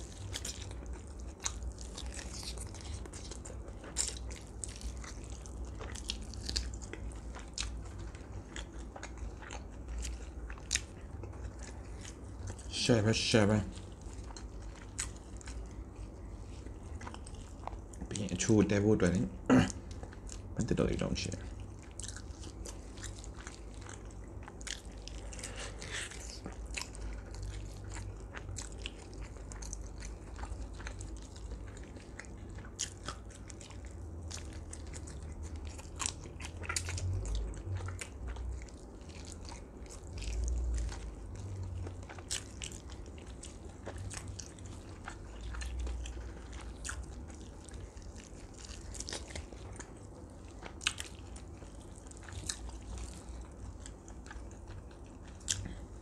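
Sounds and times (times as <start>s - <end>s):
chewing and biting meat: 0.0s - 56.0s.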